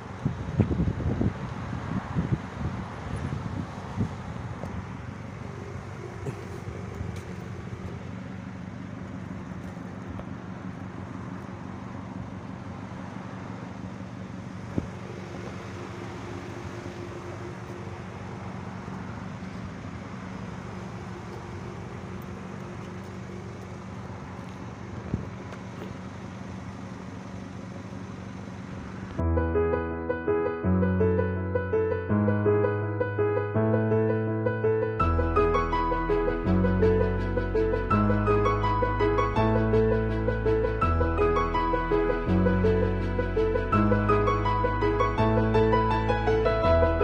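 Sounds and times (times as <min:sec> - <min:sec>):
car engine humming: 0:00.0 - 0:29.2, 0:35.0 - 0:47.0
road noise: 0:00.0 - 0:47.0.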